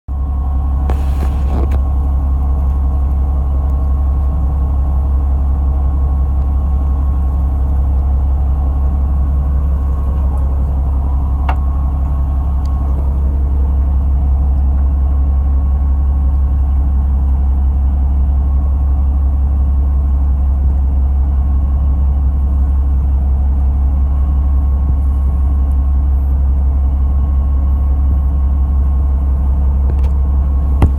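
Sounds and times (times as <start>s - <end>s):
boat engine droning: 0.1s - 30.9s
faint steady whine: 0.2s - 30.9s.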